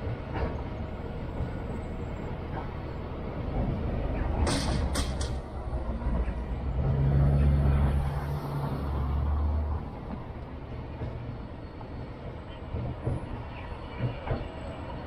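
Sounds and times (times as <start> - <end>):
freight trains rumbling: 0.0 - 15.0.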